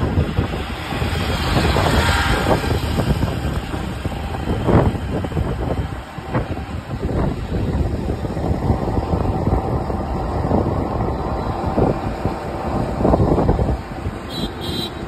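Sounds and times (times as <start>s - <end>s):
heavy low rumble: 0.0s - 14.3s.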